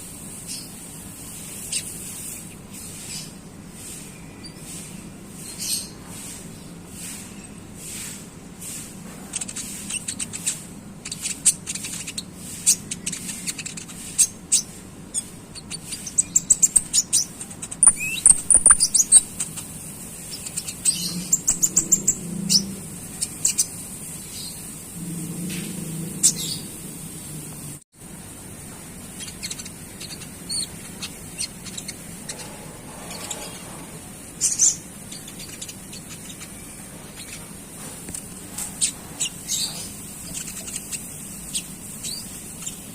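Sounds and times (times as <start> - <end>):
songbird chirping and twittering: 0.3 - 26.9, 29.0 - 42.9.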